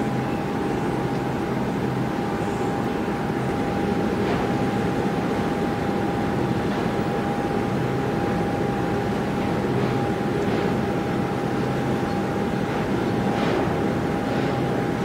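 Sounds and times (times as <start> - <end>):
barge engine drone: 0.0 - 15.0.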